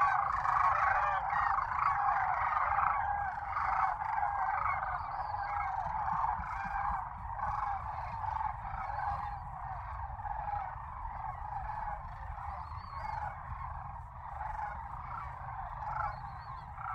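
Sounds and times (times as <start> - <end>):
cranes calling: 0.0 - 16.9.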